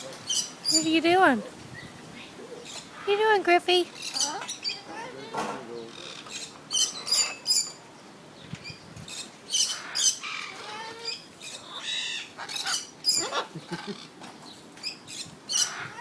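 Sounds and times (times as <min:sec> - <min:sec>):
pet birds squawking and chirping: 0:00.0 - 0:16.0.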